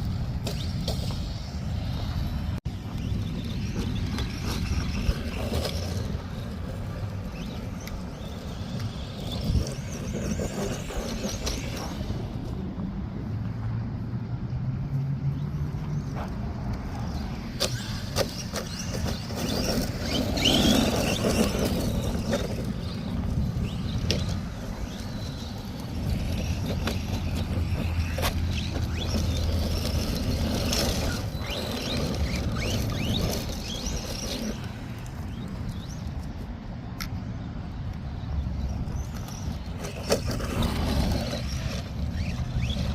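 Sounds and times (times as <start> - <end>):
tyres scrabbling on gravel: 0.1 - 12.6, 16.0 - 36.4, 38.6 - 42.9.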